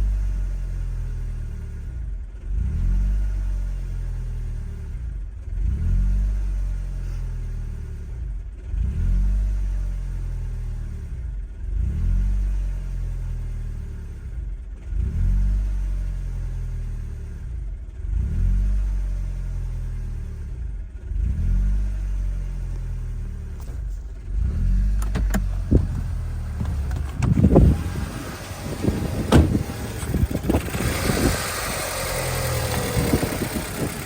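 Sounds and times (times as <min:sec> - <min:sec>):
car engine revving up and down: 0:00.0 - 0:34.0.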